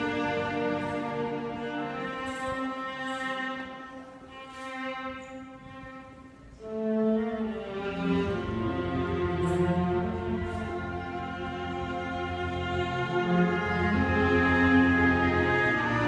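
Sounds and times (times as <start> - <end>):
orchestra accompaniment: 0.0 - 16.0
solo viola melody: 0.0 - 16.0.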